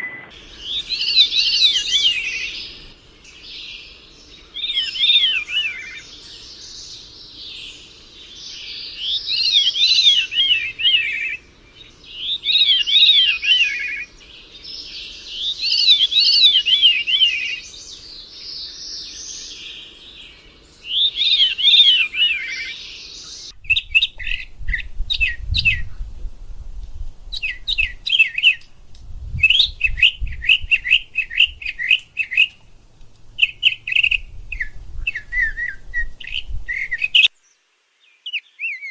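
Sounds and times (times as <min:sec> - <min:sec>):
songbird warbling: 0:00.0 - 0:26.0, 0:27.3 - 0:28.8, 0:29.4 - 0:38.9.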